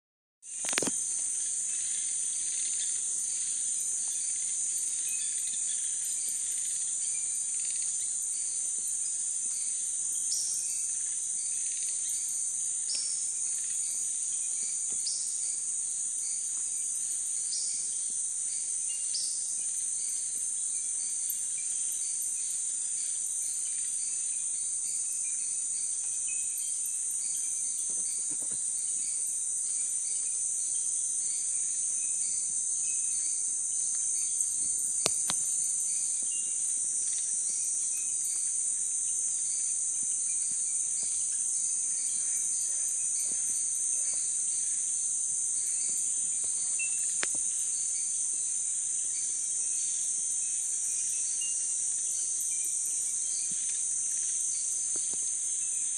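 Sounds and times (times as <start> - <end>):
insects droning: 0.5 - 55.9.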